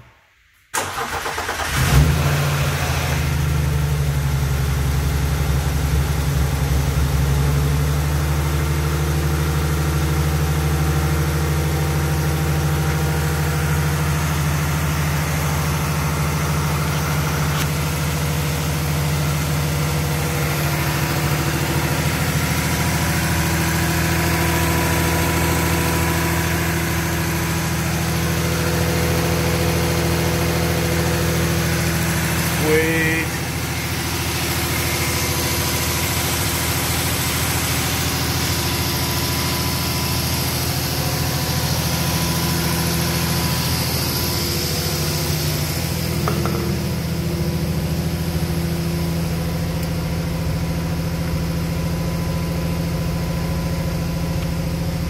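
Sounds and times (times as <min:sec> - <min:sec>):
car engine cranking and idling: 0:00.7 - 0:55.0.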